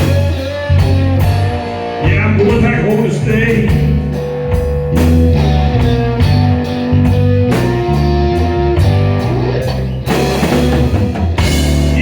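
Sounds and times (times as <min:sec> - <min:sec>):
drum kit steady beat: 0:00.0 - 0:12.0
electric bass: 0:00.0 - 0:12.0
electric guitar bending notes: 0:00.0 - 0:12.0.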